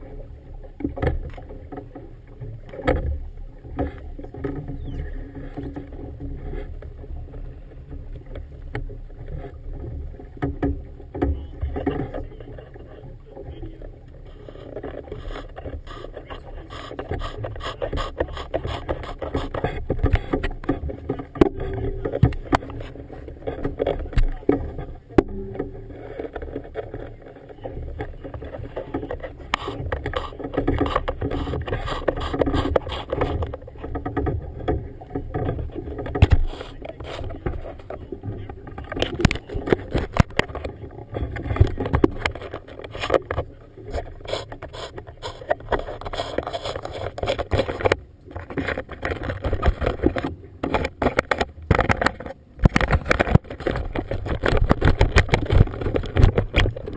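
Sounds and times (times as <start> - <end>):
wind rumble on microphone: 0.0 - 56.9
water slapping against boat hull: 8.2 - 56.9.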